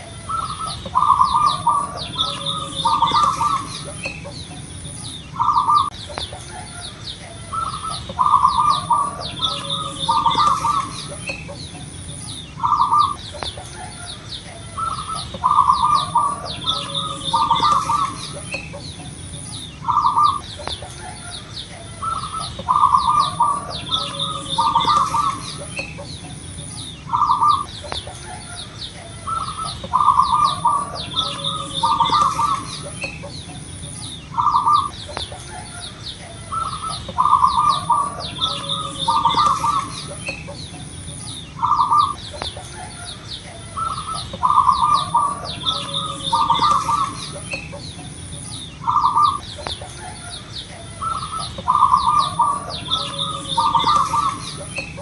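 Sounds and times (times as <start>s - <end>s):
dove cooing in rolling notes: 0.0s - 55.0s
small birds chirping: 0.0s - 55.0s.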